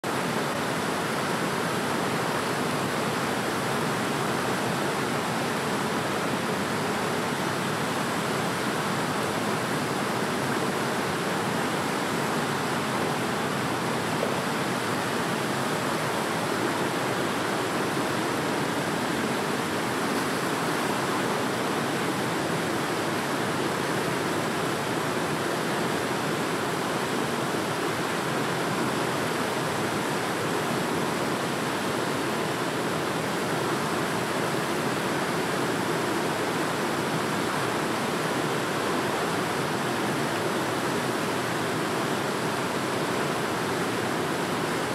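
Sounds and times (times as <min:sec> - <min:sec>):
river rushing over rocks: 0:00.0 - 0:44.9.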